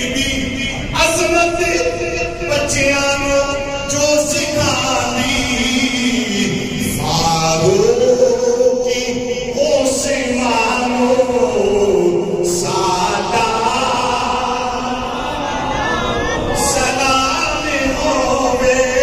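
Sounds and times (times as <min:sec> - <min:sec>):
man chanting: 0:00.0 - 0:15.1, 0:16.4 - 0:19.0.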